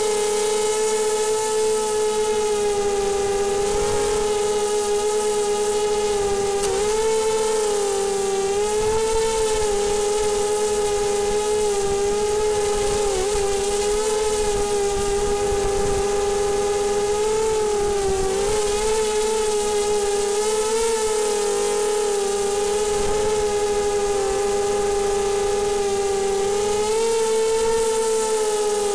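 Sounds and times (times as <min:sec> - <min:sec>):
quadcopter motors whining: 0:00.0 - 0:28.9.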